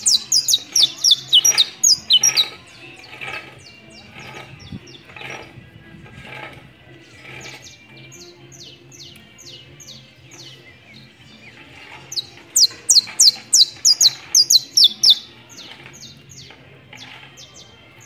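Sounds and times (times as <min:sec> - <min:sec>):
finch singing high chirps: 0:00.0 - 0:05.6, 0:07.2 - 0:18.0.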